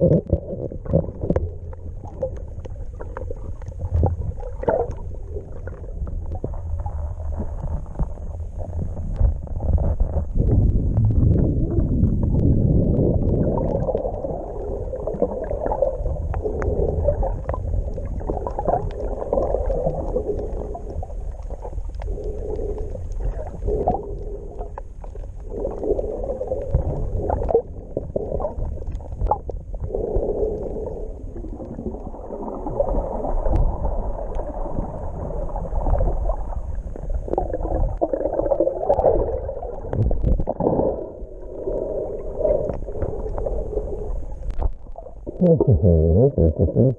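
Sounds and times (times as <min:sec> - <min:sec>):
muffled underwater water movement: 0:00.0 - 0:46.9.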